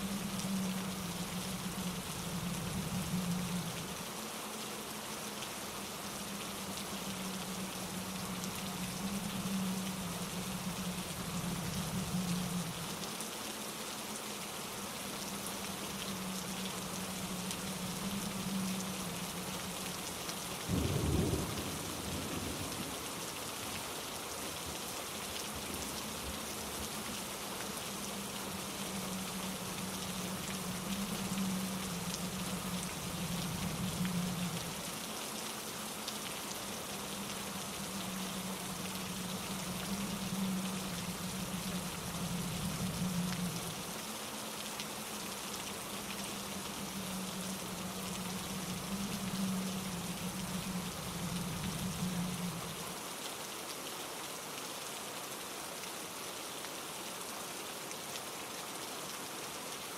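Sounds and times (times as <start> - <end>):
rain hissing on leaves: 0.0 - 59.9.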